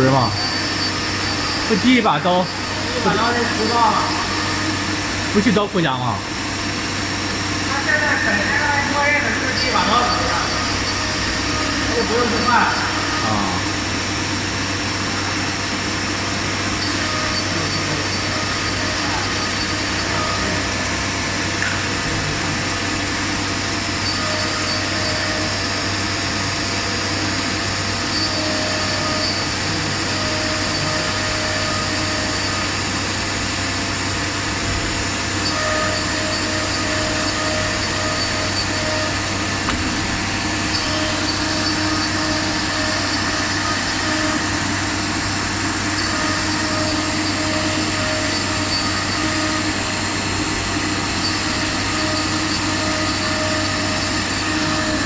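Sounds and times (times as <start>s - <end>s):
router machine drone: 0.0s - 55.0s.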